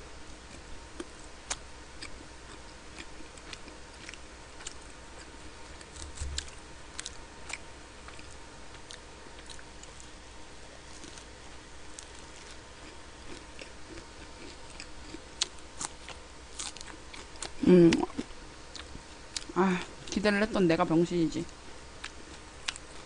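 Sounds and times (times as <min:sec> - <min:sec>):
quiet chewing: 0:00.4 - 0:10.2, 0:10.8 - 0:20.2, 0:22.0 - 0:23.0.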